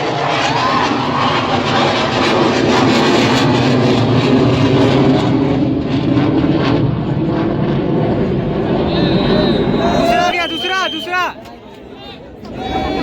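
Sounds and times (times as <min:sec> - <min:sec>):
jet aircraft roaring overhead: 0:00.0 - 0:13.0.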